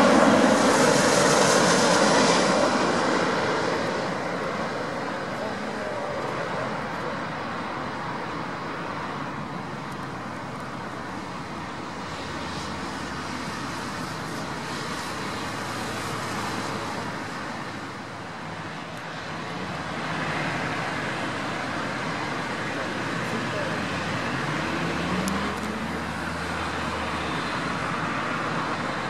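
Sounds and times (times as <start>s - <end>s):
jet engine rushing with whine: 0.0s - 29.0s.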